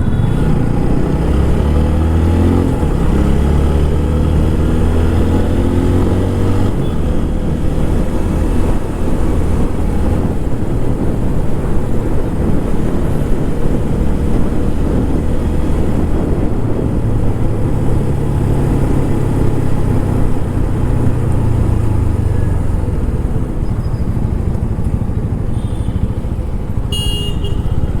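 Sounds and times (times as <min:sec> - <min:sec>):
low wind rumble: 0:00.0 - 0:28.0
motorcycle engine running: 0:00.0 - 0:28.0.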